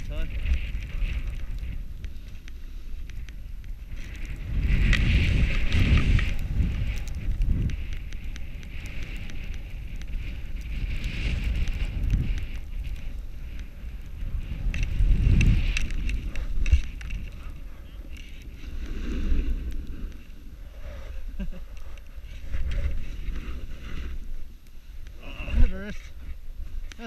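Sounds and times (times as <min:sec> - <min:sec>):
snowboard sliding across snow: 0:00.0 - 0:26.8
wind rumbling on microphone: 0:00.0 - 0:27.0.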